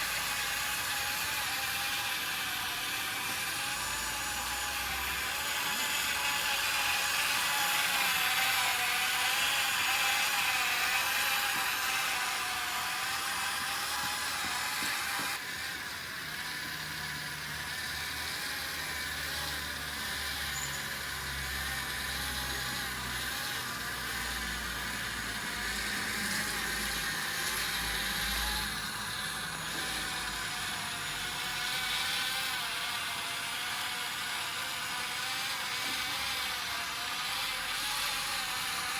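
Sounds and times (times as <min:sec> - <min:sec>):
small electric motors whining: 0:00.0 - 0:38.9.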